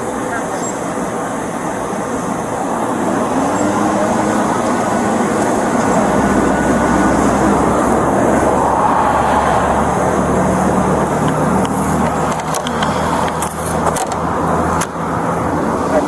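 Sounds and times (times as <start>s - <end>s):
road traffic rushing past: 0.0s - 16.0s.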